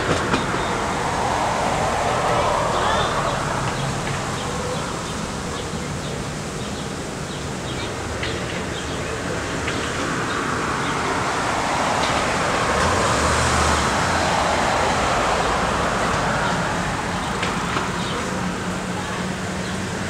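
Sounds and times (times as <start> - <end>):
vehicle passing: 0.0 - 7.0, 10.1 - 20.0
road traffic rush: 0.0 - 20.0.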